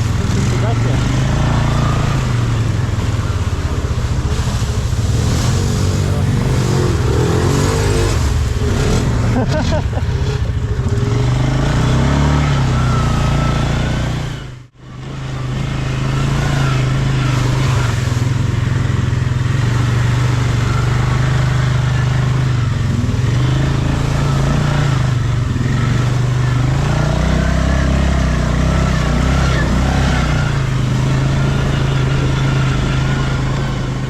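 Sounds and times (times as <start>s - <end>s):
atv engine droning: 0.0s - 34.0s.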